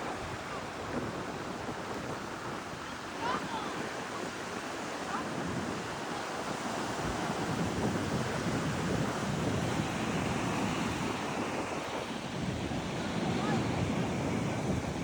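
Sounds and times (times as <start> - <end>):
ocean surf washing on shore: 0.0 - 15.0
wind on microphone: 0.0 - 15.0.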